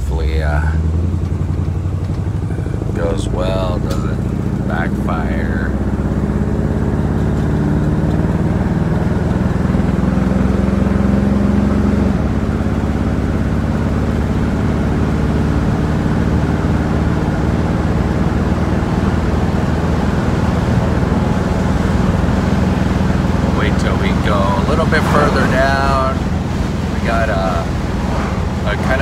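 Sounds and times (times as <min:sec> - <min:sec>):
car engine accelerating: 0:00.0 - 0:29.0
road noise: 0:00.0 - 0:29.0.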